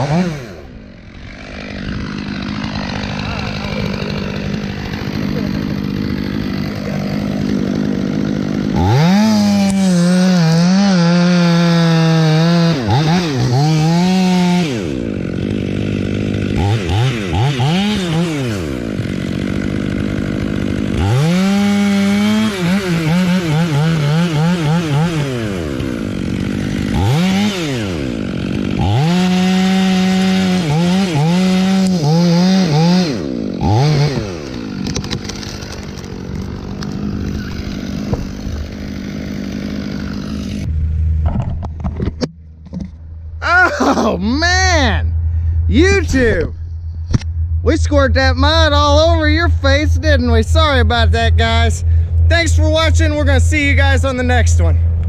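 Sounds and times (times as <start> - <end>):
chainsaw cutting: 0.0 - 42.9, 43.5 - 55.0.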